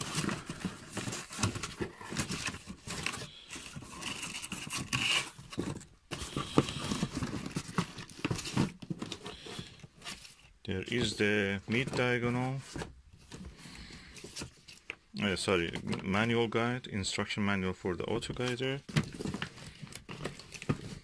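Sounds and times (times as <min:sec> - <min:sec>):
plastic bags rustling and crinkling: 0:00.0 - 0:16.0, 0:18.2 - 0:21.0.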